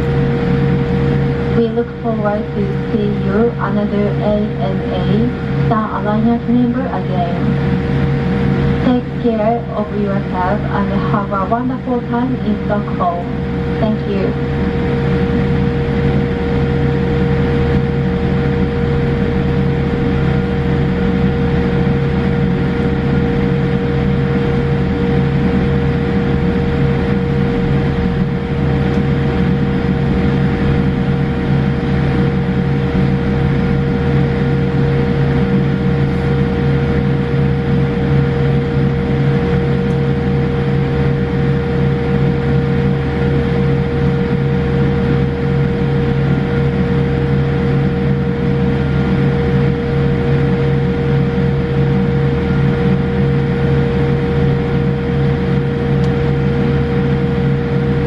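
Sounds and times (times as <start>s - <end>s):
aircraft cabin engine rumble: 0.0s - 58.0s
droning hum tones: 0.0s - 58.0s.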